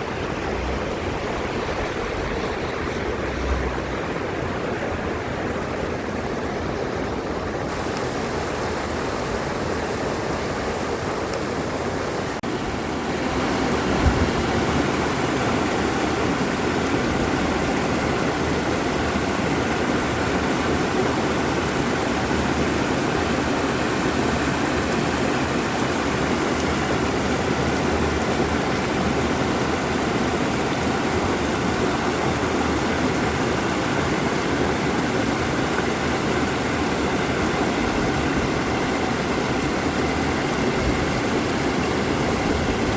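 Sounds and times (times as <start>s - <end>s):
stream rushing: 0.0s - 42.9s.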